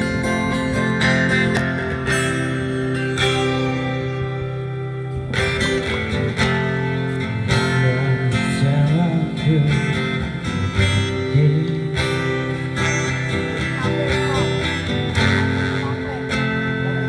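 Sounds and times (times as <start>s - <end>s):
guitar strummed and plucked: 0.0s - 17.0s
steady low notes: 0.0s - 17.0s.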